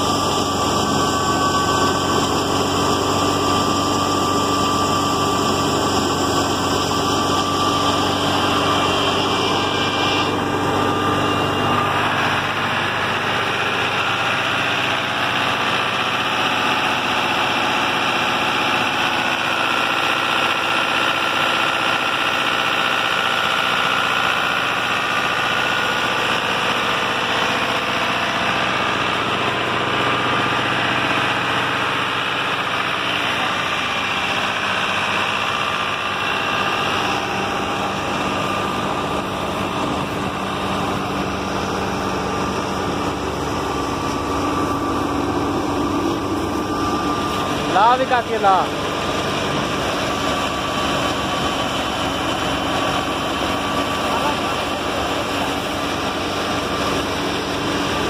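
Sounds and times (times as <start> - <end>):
thresher machinery running: 0.0 - 58.0
tractor diesel engine running: 0.0 - 58.0.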